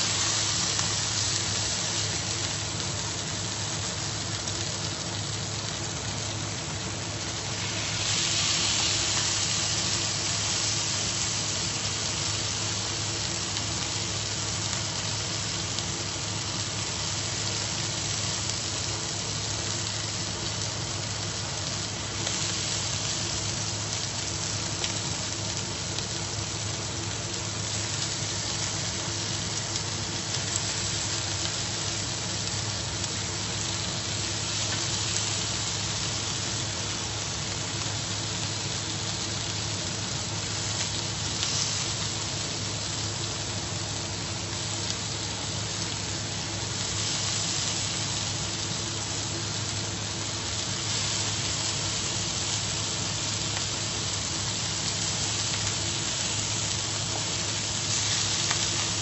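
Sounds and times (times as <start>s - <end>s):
steak sizzling in a frying pan: 0.0s - 59.0s.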